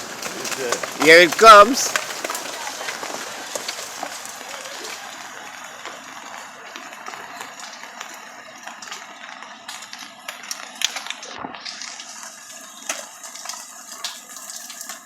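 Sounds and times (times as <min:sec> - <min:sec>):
heavy rain hiss: 0:00.0 - 0:15.0
stones tumbling down a slope: 0:00.0 - 0:15.0.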